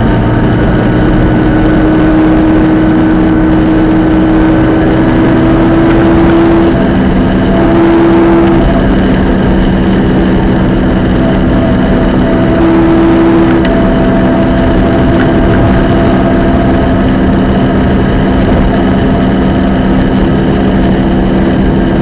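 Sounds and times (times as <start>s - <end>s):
car engine running: 0.0s - 22.0s
drivetrain whine: 0.0s - 22.0s.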